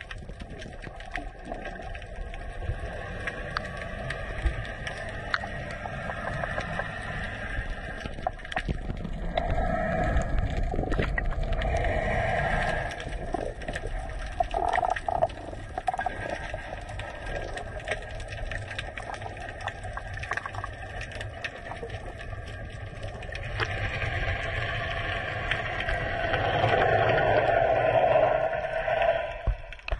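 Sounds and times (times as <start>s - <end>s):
muffled underwater rush: 0.0s - 29.9s.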